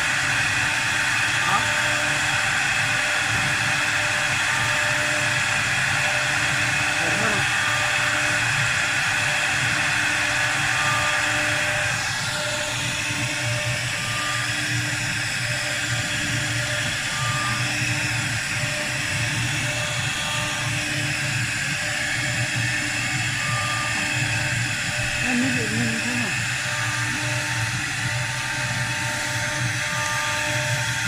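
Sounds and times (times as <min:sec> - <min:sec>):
mechanical whine: 0:00.0 - 0:31.0
wood lathe running: 0:00.0 - 0:31.0.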